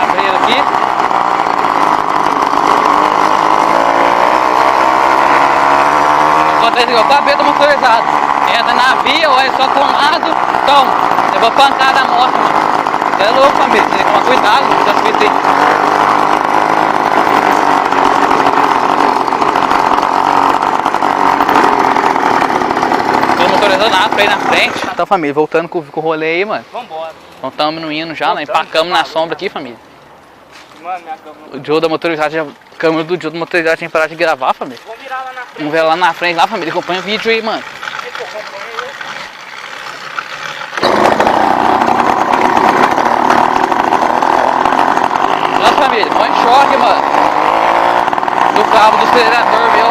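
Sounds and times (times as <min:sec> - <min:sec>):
two-stroke engine running: 0:00.0 - 0:25.3, 0:32.1 - 0:49.9.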